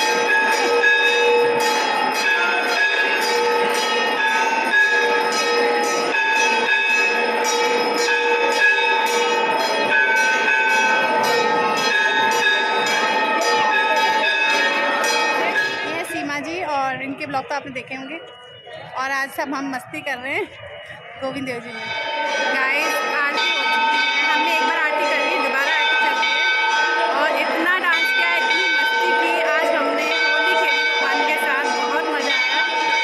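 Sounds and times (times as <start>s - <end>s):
temple bells ringing: 0.0s - 33.0s.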